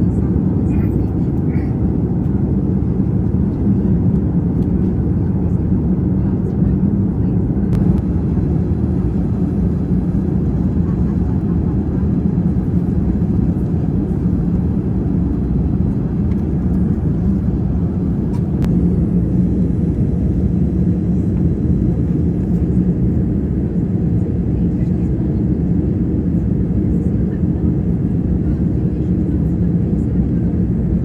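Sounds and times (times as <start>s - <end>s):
airliner cabin noise: 0.0s - 31.0s.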